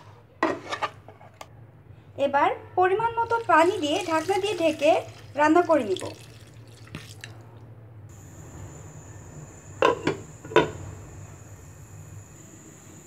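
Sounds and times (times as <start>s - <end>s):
faint steady hum: 0.9s - 13.0s.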